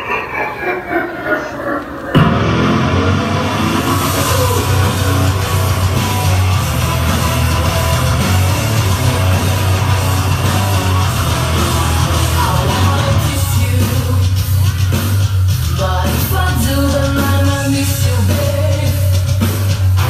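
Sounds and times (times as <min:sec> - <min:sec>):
heavy rock music: 0:02.1 - 0:20.0.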